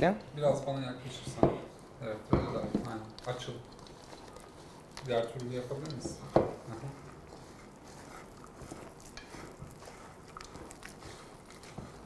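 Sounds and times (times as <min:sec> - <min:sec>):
hand kneading sticky dough: 0:00.0 - 0:12.0.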